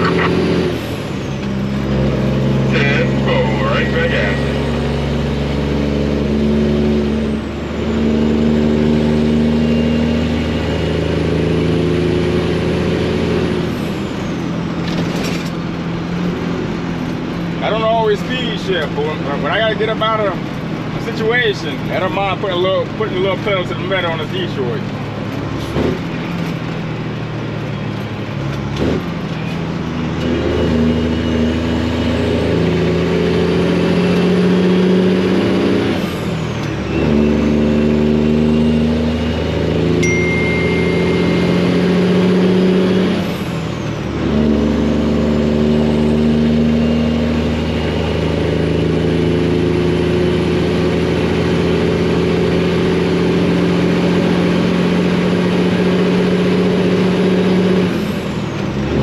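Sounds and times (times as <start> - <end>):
truck diesel engine pulling hard: 0.0 - 59.0.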